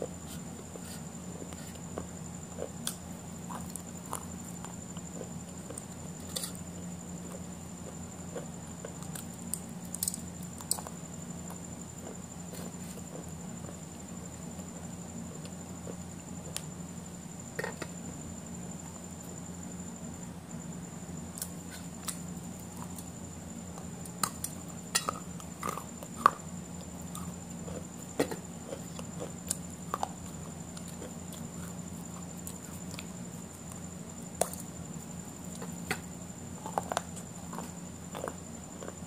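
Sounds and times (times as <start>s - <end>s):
electrical hum: 0.0s - 39.0s
faint high whine: 0.0s - 39.0s.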